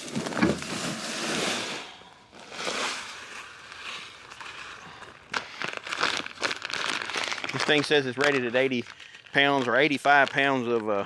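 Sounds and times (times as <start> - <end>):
paper bag rustling: 0.0 - 11.0.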